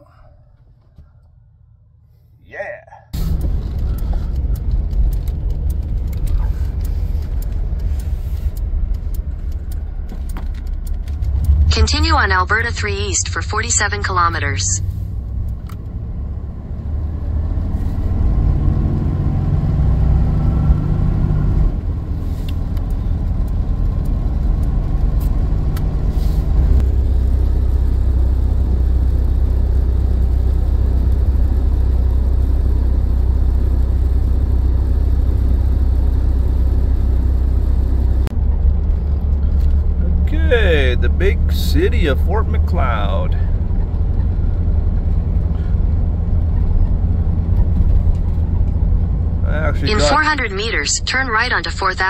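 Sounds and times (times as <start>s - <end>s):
van engine and tyre drone: 0.0s - 52.0s.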